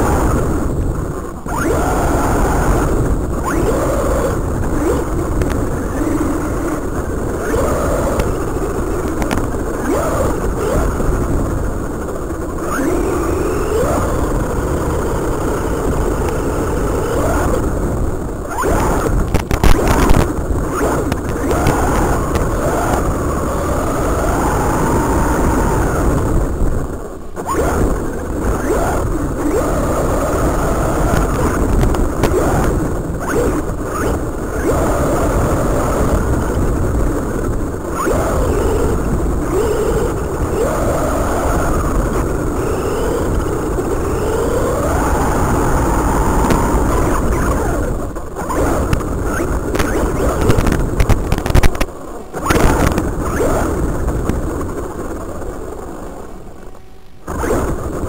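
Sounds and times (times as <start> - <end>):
electric motor and gear whine: 0.0 - 58.0
noisy hiss: 0.0 - 58.0.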